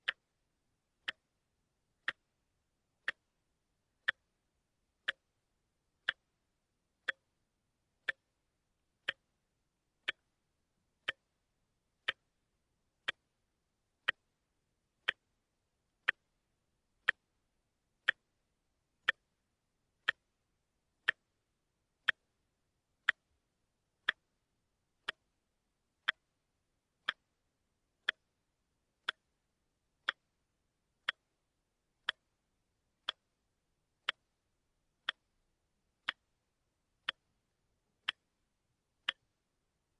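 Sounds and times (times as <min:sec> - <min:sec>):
wristwatch ticking: 0:00.0 - 0:01.4, 0:02.0 - 0:02.4, 0:03.0 - 0:06.4, 0:07.0 - 0:07.4, 0:08.0 - 0:09.4, 0:10.0 - 0:15.4, 0:16.0 - 0:16.4, 0:17.0 - 0:17.4, 0:18.0 - 0:19.4, 0:20.0 - 0:23.4, 0:24.0 - 0:24.4, 0:25.0 - 0:26.4, 0:27.0 - 0:39.9.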